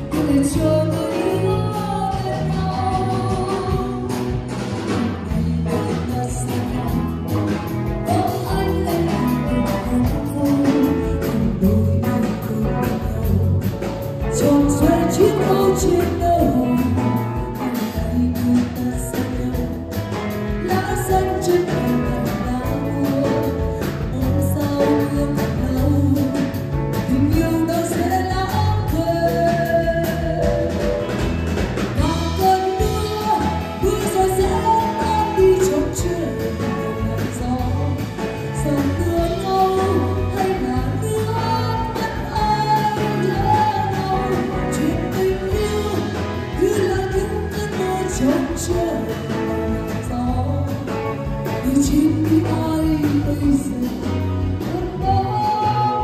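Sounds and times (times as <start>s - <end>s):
bass guitar: 0.0s - 56.0s
drum kit beat: 0.0s - 56.0s
electric guitar: 0.0s - 56.0s
woman singing: 0.0s - 56.0s.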